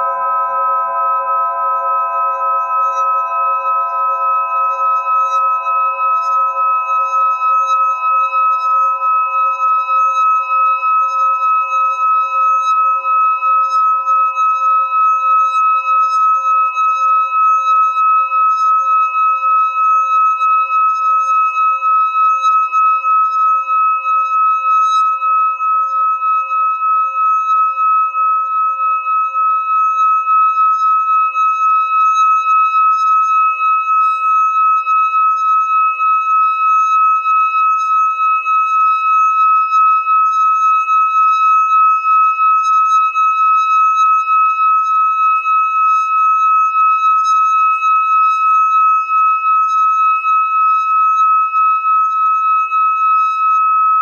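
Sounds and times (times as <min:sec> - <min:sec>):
singing bowl ringing tone: 0:00.0 - 0:54.0.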